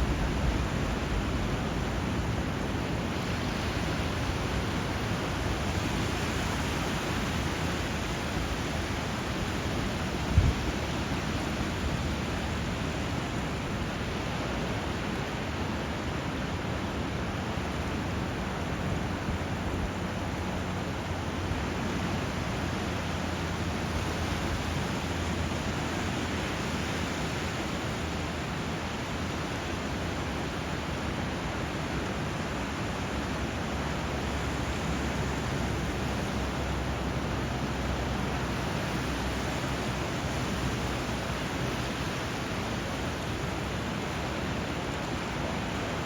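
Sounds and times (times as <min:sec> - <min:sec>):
rushing water: 0:00.0 - 0:46.0.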